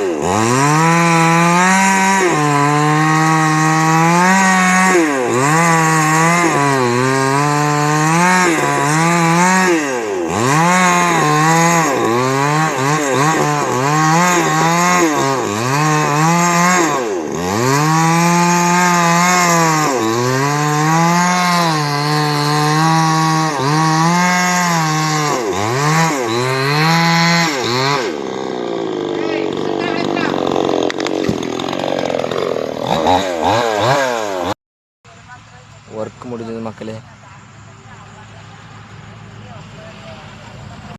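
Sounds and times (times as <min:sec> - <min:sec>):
chainsaw cutting wood: 0:00.0 - 0:34.6.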